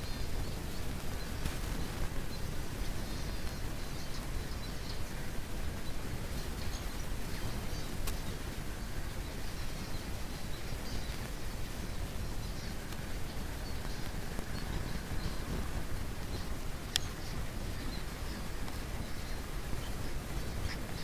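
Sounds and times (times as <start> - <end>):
finches chirping: 0.0 - 21.0
steady low rumble: 0.0 - 21.0.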